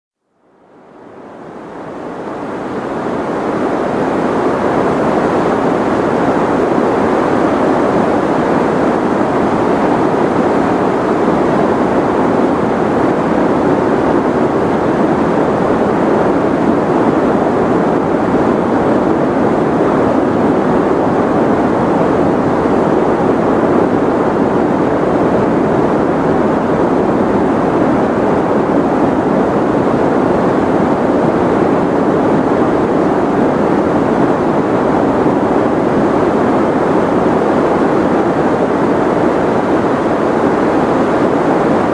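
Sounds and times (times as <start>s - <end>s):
deep muffled white noise: 0.3s - 41.9s.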